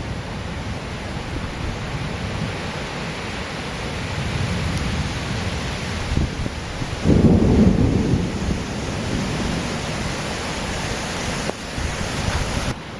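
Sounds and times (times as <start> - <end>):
thunder rumbling: 0.0 - 12.8
steady rain: 0.0 - 12.9.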